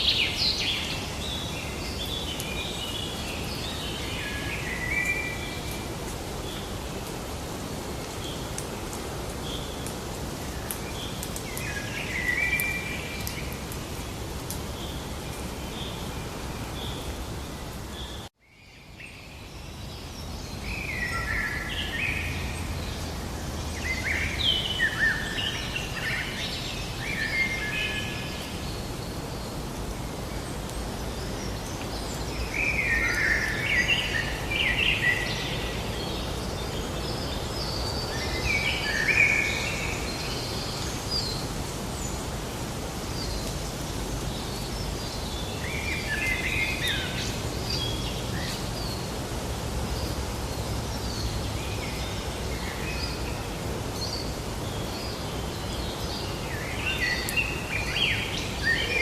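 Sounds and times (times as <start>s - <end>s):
birdsong: 0.0s - 59.0s
outdoor hiss: 0.0s - 59.0s.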